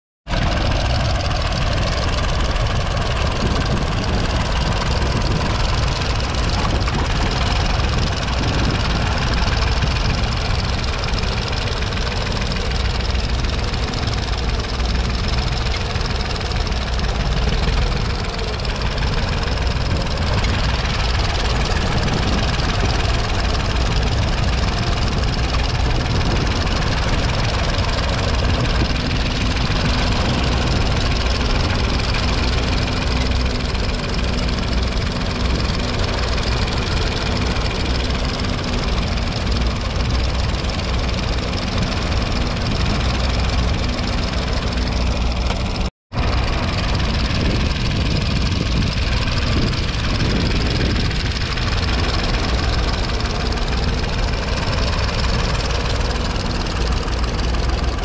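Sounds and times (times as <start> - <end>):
tractor diesel engine under load: 0.2 - 58.0.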